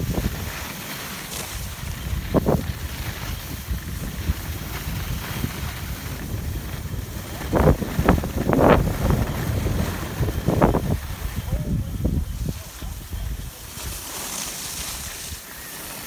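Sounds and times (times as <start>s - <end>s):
wind buffeting microphone: 0.0s - 0.7s, 1.3s - 15.4s.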